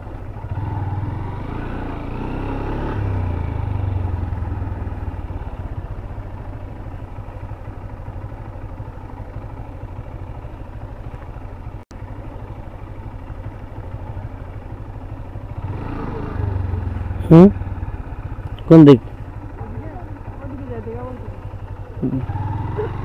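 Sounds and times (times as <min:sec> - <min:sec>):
motorcycle engine running: 0:00.0 - 0:23.0
road noise: 0:00.0 - 0:23.0.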